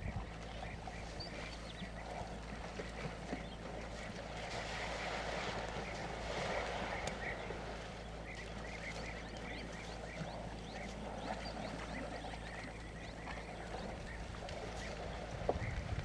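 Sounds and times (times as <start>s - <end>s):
birds chirping and twittering: 0.0s - 16.0s
steady low hum: 0.0s - 16.0s.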